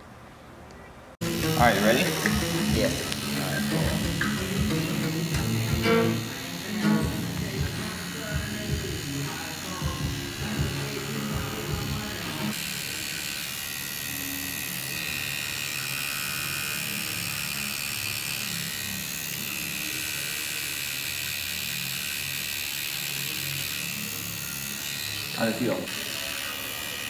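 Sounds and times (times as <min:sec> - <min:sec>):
tattoo machine buzzing: 0:01.2 - 0:27.0.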